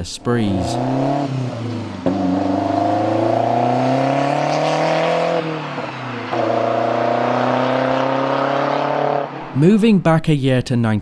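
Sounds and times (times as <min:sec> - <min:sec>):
car engine accelerating: 0:00.2 - 0:10.0.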